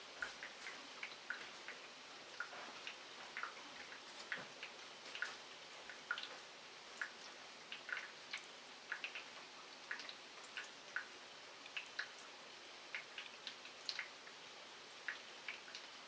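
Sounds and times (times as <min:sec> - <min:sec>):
faint steady hiss: 0:00.0 - 0:16.0
raindrops dripping and tapping: 0:00.0 - 0:16.0.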